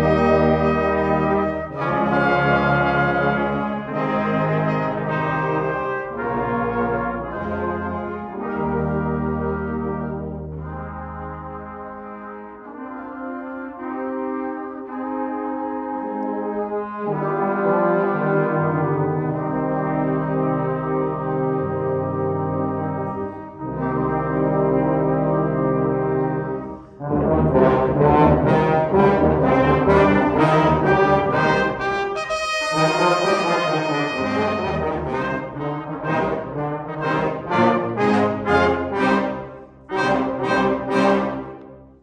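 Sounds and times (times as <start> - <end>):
brass ensemble playing a march: 0.0 - 41.8.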